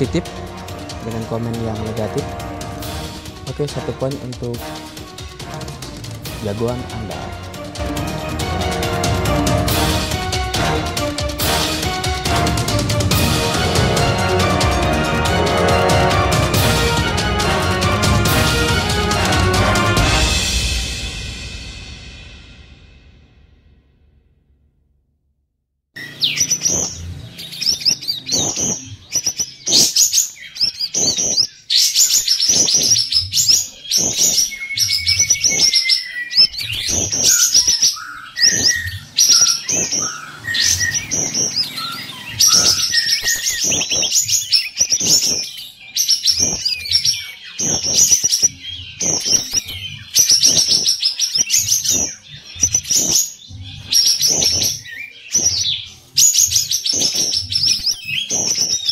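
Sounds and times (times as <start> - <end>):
bulbuls singing rapid chattering: 0.0 - 21.0, 26.0 - 58.9.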